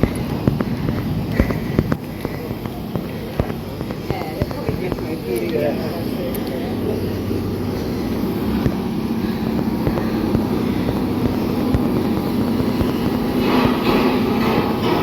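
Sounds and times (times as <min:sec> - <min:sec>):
diesel locomotive engine idling: 0:00.0 - 0:15.0
rough crackling noise: 0:00.0 - 0:15.0.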